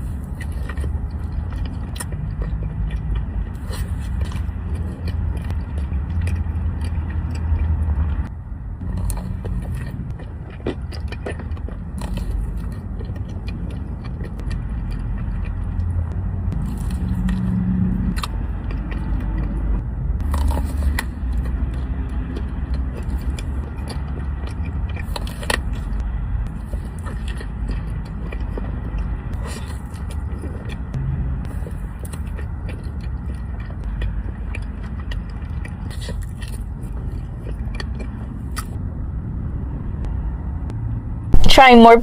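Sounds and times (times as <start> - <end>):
biting and chewing: 0.0 - 40.8
steady low rumble: 0.0 - 42.0.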